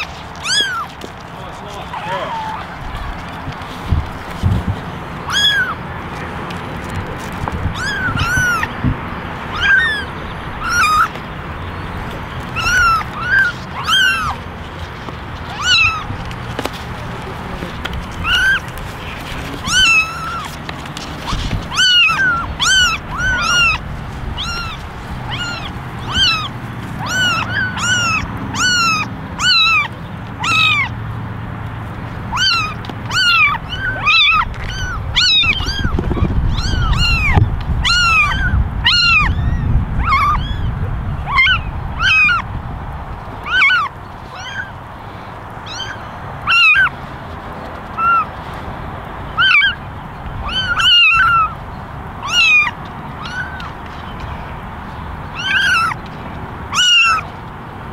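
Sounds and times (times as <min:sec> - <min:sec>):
kittens mewing: 0:00.0 - 0:31.0, 0:32.2 - 0:42.6, 0:43.4 - 0:44.9, 0:45.5 - 0:47.0, 0:47.9 - 0:48.3, 0:49.3 - 0:49.8, 0:50.4 - 0:51.6, 0:52.2 - 0:53.8, 0:55.3 - 0:56.0, 0:56.7 - 0:57.3.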